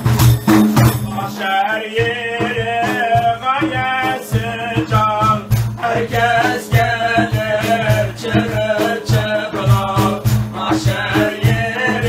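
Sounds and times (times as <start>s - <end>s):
frame drums with jingles: 0.0s - 12.0s
man singing: 1.0s - 12.0s.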